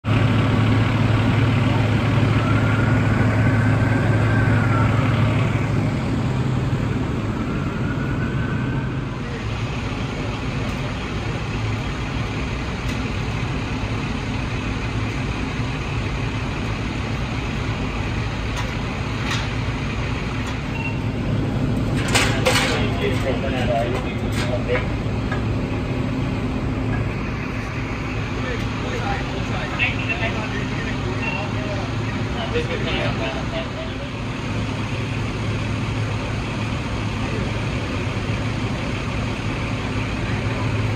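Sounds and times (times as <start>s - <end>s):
heavy vehicle engine idling: 0.0s - 40.9s.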